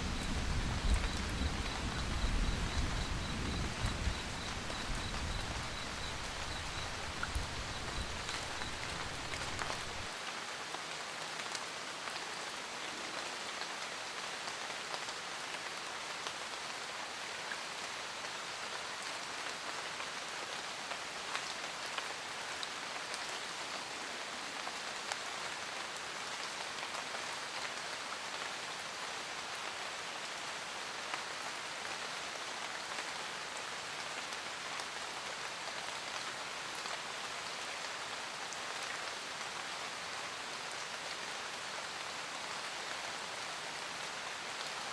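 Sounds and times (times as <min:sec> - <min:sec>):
rain drops ticking on surface: 0:00.0 - 0:44.9.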